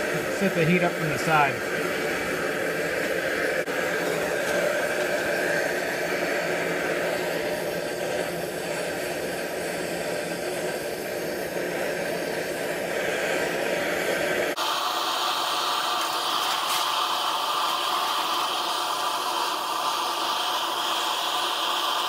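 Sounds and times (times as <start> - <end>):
gas torch hissing: 0.0 - 22.0.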